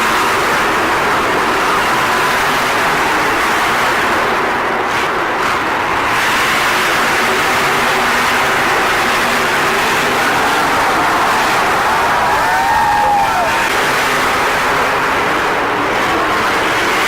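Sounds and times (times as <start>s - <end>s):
truck engines roaring: 0.0s - 17.0s.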